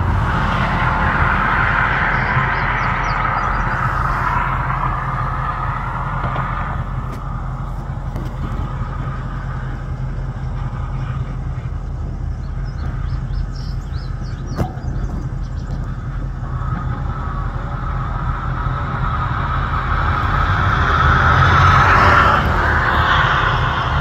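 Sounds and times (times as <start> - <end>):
traffic rumble: 0.0 - 24.0
vehicle passing: 0.0 - 24.0.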